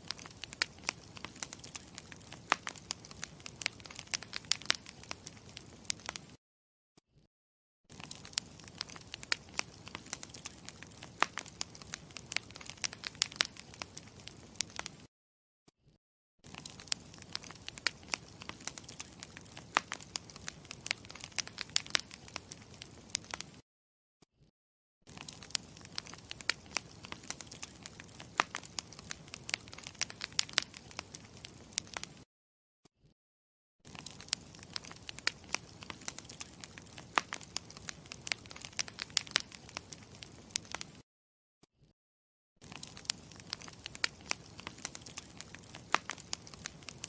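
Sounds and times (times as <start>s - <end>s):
campfire crackling: 0.0s - 6.4s, 7.9s - 15.1s, 16.5s - 23.6s, 25.1s - 32.2s, 33.9s - 41.0s, 42.6s - 47.0s.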